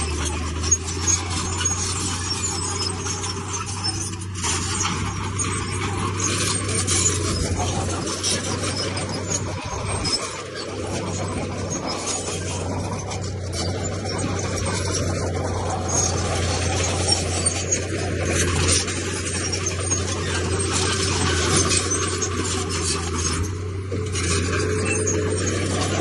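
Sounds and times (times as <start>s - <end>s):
bulldozer diesel engine running: 0.0s - 26.0s
steel tracks rattling and scraping: 0.0s - 26.0s.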